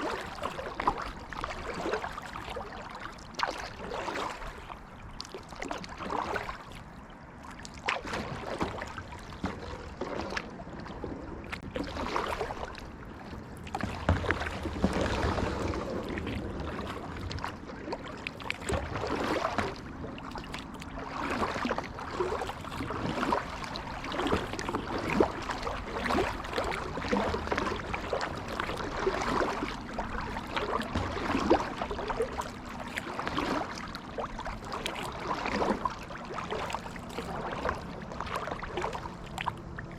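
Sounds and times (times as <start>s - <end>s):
kayak paddle splashing: 0.0s - 39.9s
water gurgling along hull: 0.0s - 39.9s.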